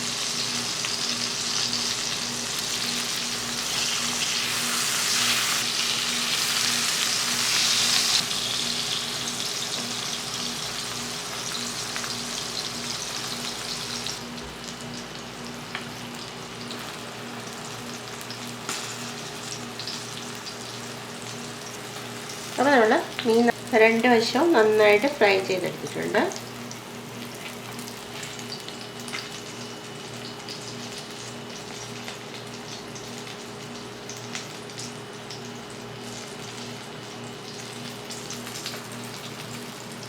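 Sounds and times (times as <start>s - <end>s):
fish sizzling in a pan: 0.0s - 23.6s, 26.1s - 40.0s.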